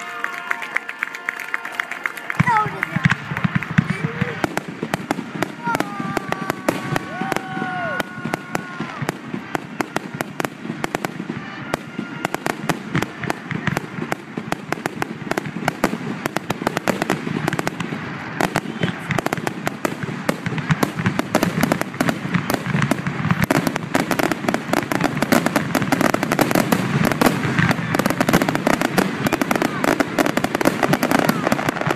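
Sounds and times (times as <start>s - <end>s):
fireworks bangs and crackling: 2.0s - 31.9s.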